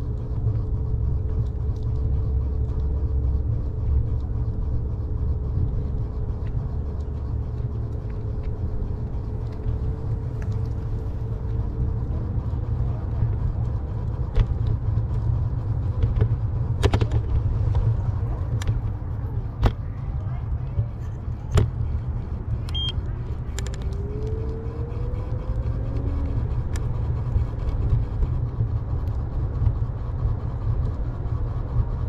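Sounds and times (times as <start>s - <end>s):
faint steady hum: 0.0s - 32.0s
low outdoor rumble: 0.0s - 32.0s.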